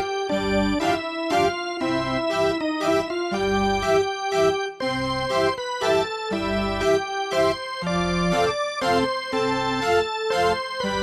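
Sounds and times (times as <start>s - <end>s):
keyboard tune over beat: 0.0s - 11.0s.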